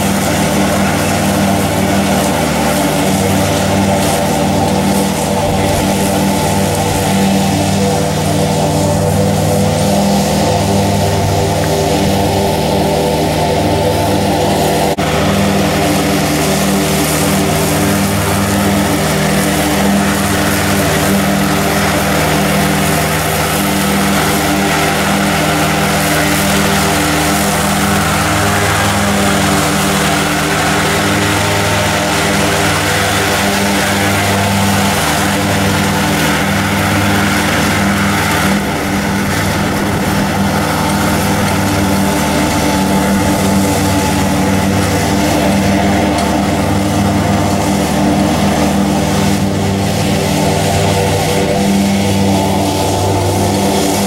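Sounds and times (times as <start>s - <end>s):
mower engine running: 0.0s - 54.0s.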